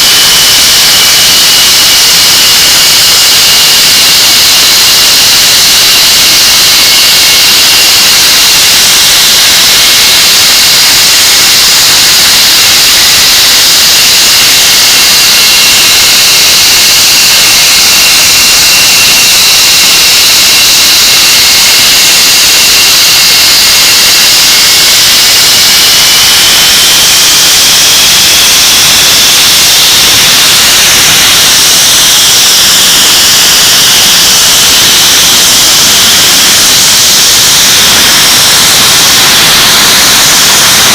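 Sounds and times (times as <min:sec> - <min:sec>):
jet engine roaring and whining: 0:00.0 - 0:40.9.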